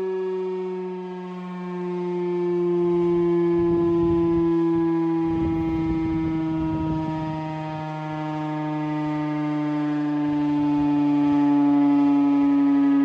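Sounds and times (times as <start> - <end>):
outdoor warning siren steady tone: 0.0 - 13.0.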